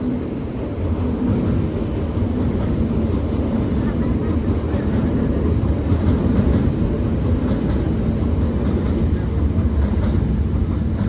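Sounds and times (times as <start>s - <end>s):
train rumbling slowly: 0.0s - 11.0s.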